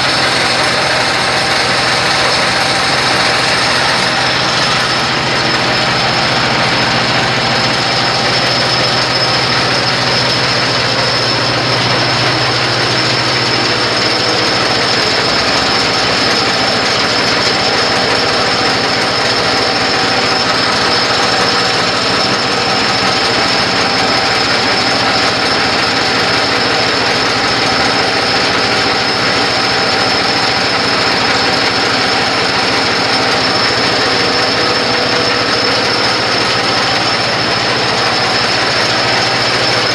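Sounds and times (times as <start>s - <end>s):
high whine: 0.0s - 39.9s
stone crusher rattling: 0.0s - 39.9s.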